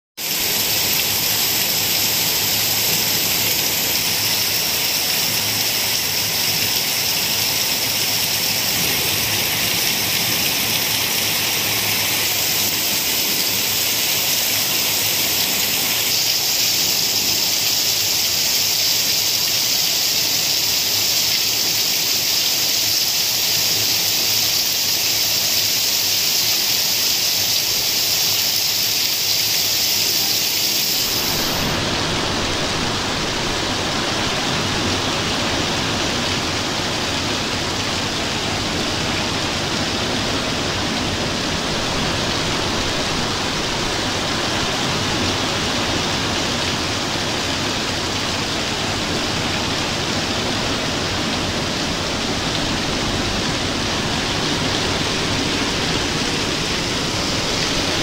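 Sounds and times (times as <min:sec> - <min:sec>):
torrential rain pouring: 0:00.2 - 0:58.0.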